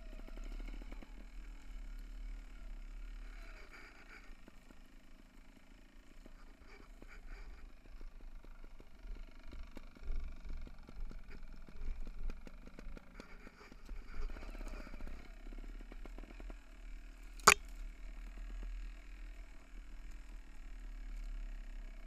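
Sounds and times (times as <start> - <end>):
mountain bike rattling on trail: 0.0 - 22.0.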